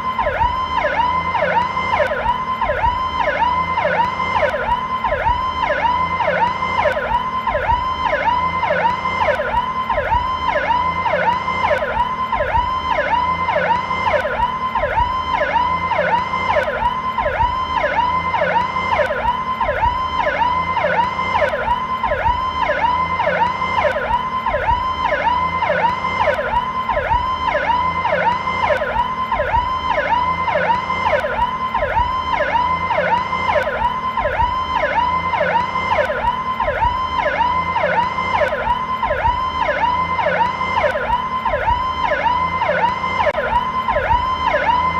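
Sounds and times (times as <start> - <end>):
electronic police siren sweeping: 0.0 - 44.9.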